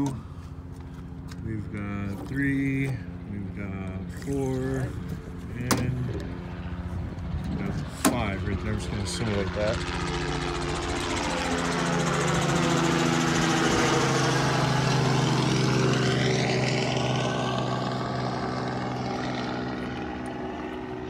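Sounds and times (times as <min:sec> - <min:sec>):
small plane engine and propeller: 0:00.0 - 0:21.0.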